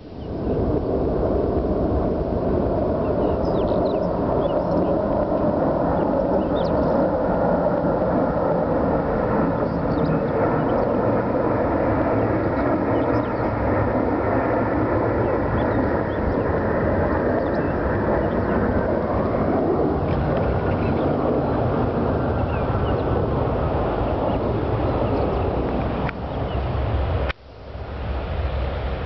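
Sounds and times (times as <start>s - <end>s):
aircraft engines roaring overhead: 0.0s - 29.0s.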